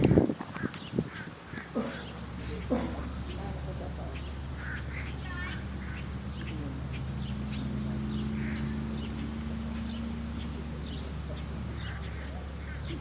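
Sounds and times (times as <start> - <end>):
ducks quacking: 0.0 - 13.0
steady low hum: 0.0 - 13.0.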